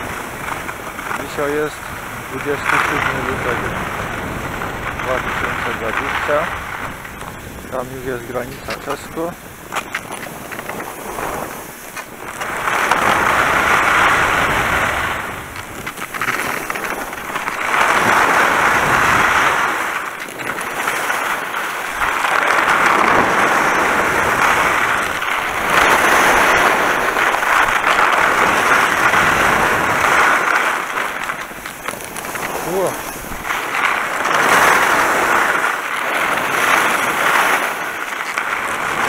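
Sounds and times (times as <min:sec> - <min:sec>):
skis scraping over snow: 0:00.0 - 0:39.0.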